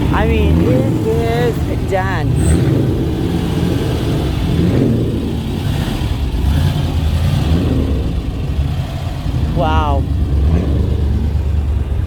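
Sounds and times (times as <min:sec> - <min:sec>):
car engine rolling past: 0:00.0 - 0:12.0.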